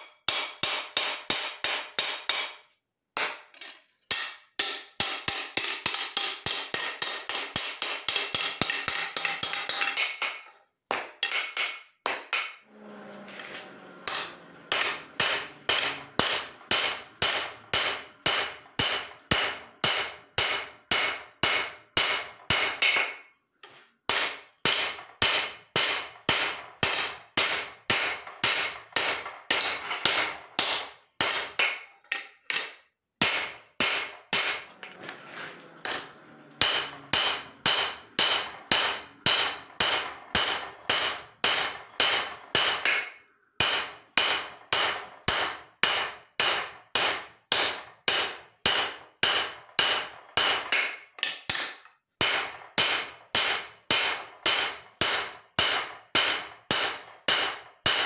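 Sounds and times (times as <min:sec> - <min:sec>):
hammer striking steel on anvil: 0:00.0 - 0:02.6, 0:04.1 - 0:12.6, 0:14.1 - 0:23.3, 0:24.1 - 0:31.9, 0:32.5 - 0:34.7, 0:35.9 - 0:58.0.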